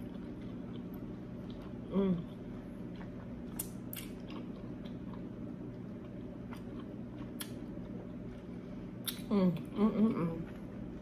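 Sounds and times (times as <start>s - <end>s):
person chewing: 0.0s - 9.7s.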